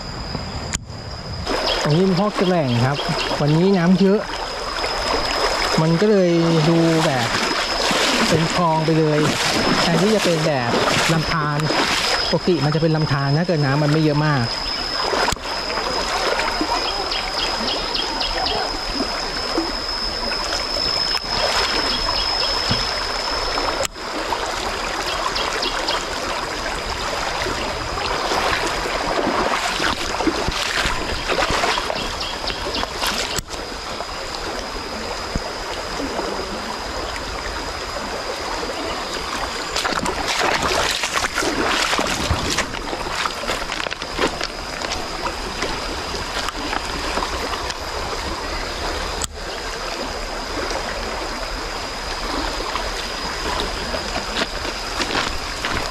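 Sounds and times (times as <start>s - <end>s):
stream water rushing: 1.3s - 55.9s
water splashing: 1.4s - 55.9s.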